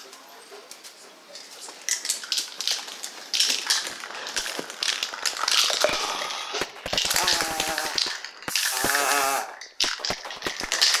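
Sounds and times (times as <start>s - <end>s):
spray can ball rattling: 1.4s - 11.0s.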